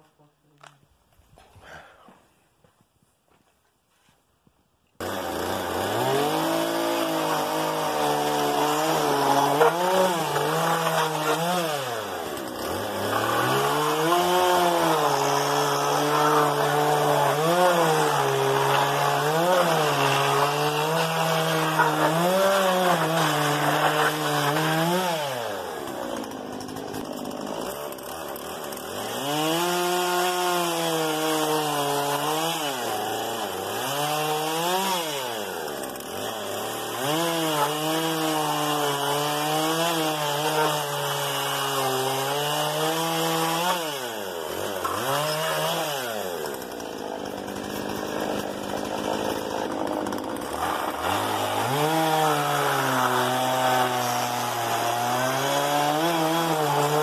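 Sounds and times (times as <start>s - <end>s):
chainsaw cutting wooden boards: 5.0s - 57.0s.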